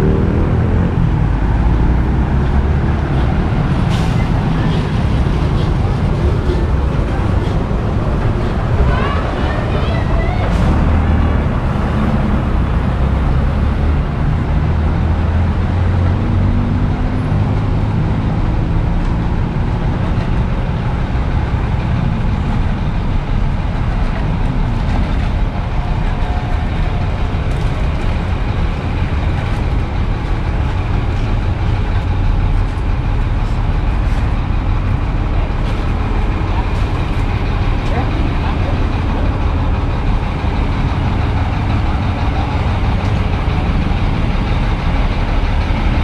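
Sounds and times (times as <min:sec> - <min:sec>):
heavy engine running: 0:00.0 - 0:46.0
road traffic rumble: 0:00.0 - 0:46.0.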